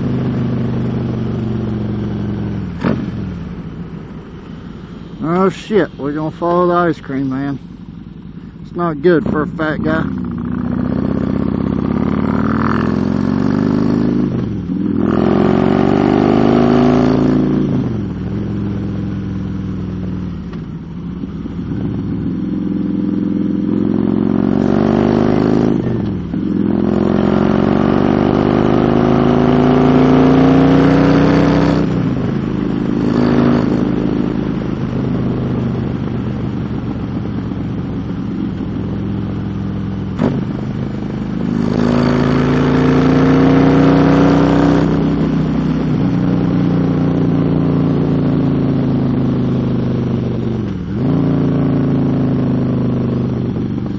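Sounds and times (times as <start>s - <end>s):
motorcycle engine shifting gears: 0.0s - 53.9s.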